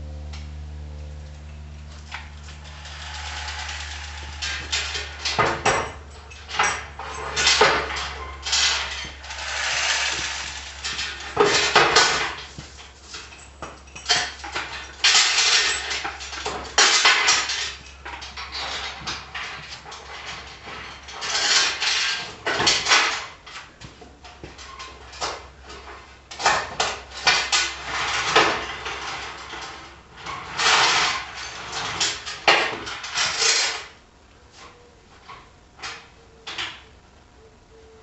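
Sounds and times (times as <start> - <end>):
metal tools clanking and scraping: 2.0 - 34.0.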